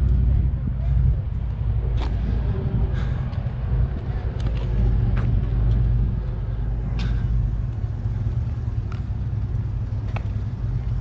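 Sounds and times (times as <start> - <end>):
vehicle driving rumble: 0.0 - 11.0.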